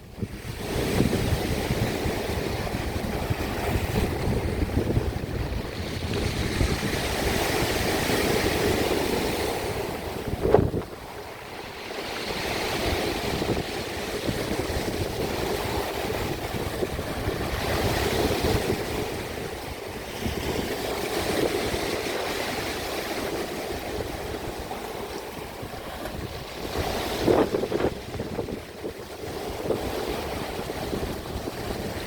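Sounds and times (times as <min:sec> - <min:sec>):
sea waves washing in: 0:00.0 - 0:32.0
wind rumble on microphone: 0:00.0 - 0:32.0.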